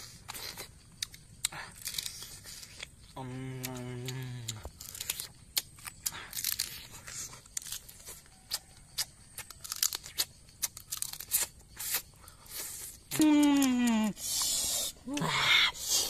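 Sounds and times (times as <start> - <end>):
person eating crab: 0.0 - 16.0.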